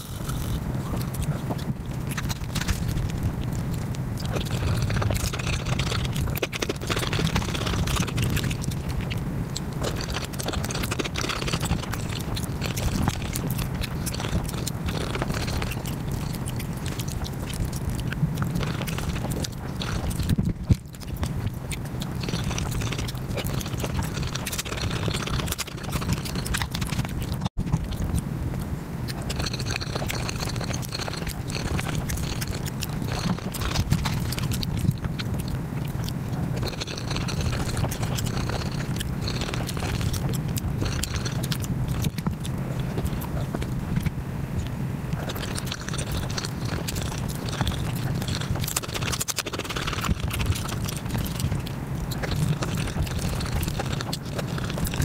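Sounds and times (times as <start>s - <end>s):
sped-up chewing and crunching: 0.0s - 55.0s.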